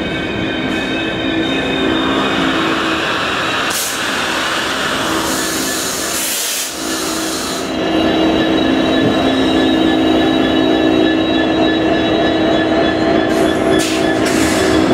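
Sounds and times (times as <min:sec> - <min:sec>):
diesel locomotive engine running: 0:00.0 - 0:14.9
wheels and brakes squealing: 0:00.0 - 0:14.9.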